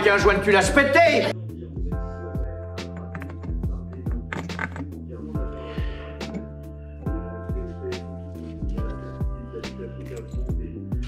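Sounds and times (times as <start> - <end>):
held chords: 1.9 - 11.0.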